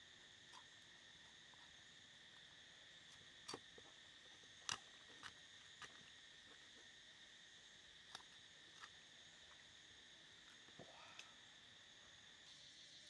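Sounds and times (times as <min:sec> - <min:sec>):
faint insects chirping: 0:00.0 - 0:13.0.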